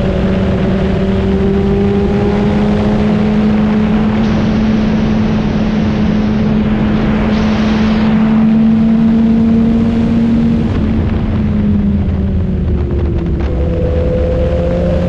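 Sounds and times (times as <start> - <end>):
motorcycle engine cruising: 0.0 - 7.4, 8.0 - 15.0
wind noise: 0.0 - 15.0.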